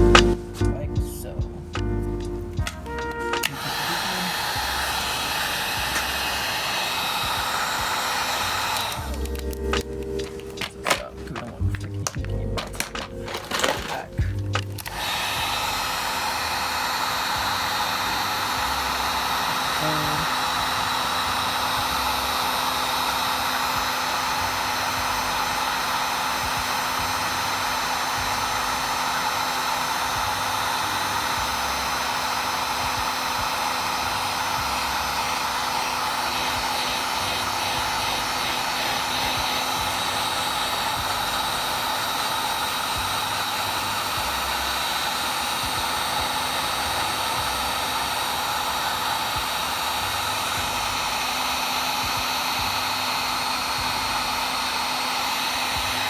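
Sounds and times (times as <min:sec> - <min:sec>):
heat gun blowing: 0:02.5 - 0:56.0.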